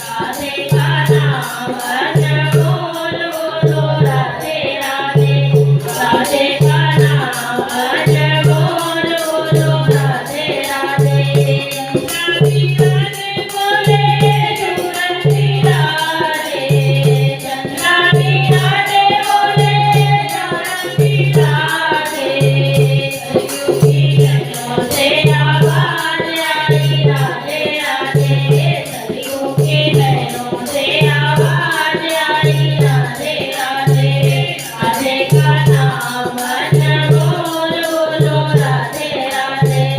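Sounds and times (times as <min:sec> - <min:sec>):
devotional singing: 0:00.0 - 0:39.9
rattling shaker percussion: 0:00.0 - 0:39.9.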